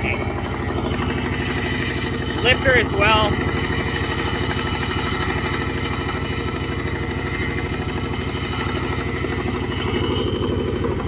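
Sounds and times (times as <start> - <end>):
engine idling roughly: 0.0 - 11.0.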